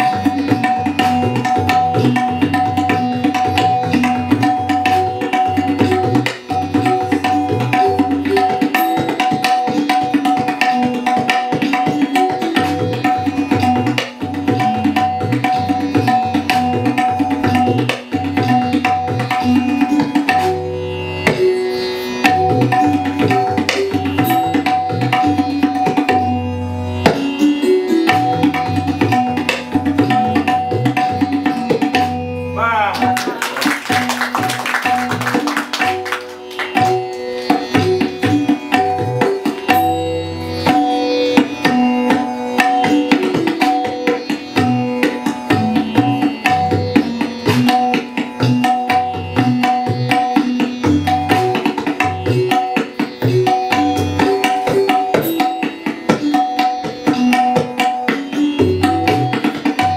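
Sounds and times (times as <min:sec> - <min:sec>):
repeating melodic accompaniment: 0:00.0 - 0:59.9
tabla drumming: 0:00.0 - 0:59.9.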